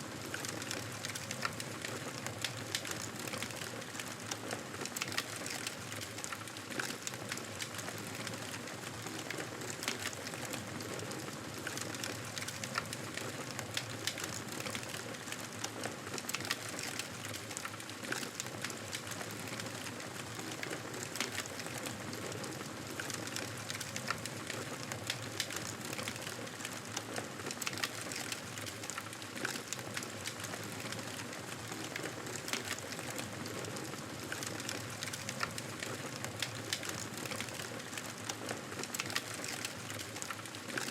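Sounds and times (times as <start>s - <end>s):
wood fire crackling and popping: 0.2s - 40.9s.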